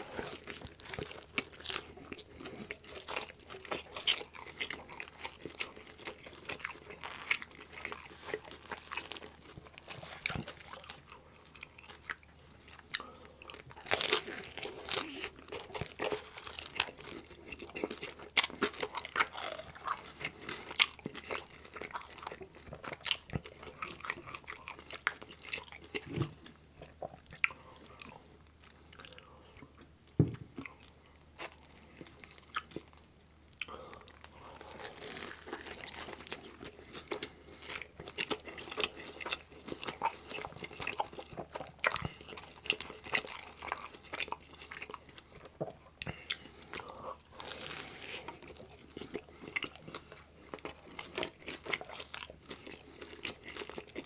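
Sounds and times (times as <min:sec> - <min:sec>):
chewing and biting pizza: 0:00.0 - 0:29.8, 0:30.6 - 0:54.0.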